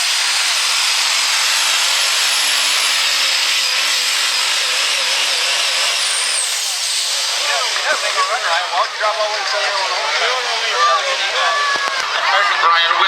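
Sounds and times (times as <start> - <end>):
truck engine at full throttle: 0.0 - 13.0.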